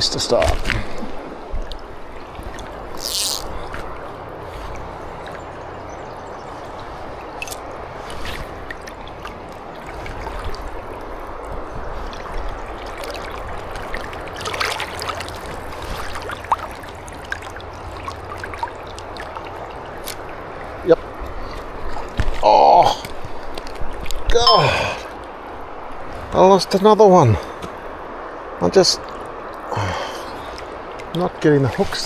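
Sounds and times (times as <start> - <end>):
river rushing over stones: 0.0 - 32.0
small splashes and clicks: 0.2 - 24.4, 30.3 - 32.0.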